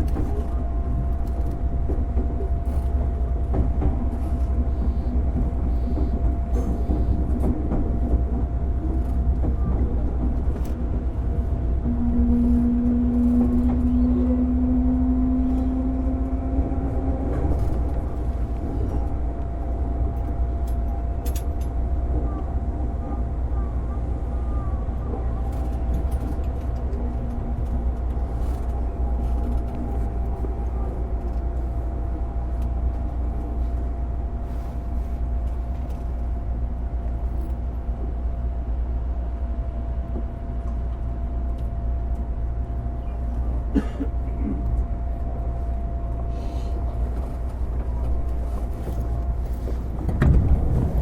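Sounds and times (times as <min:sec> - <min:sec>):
electric train running rumble: 0:00.0 - 0:51.0.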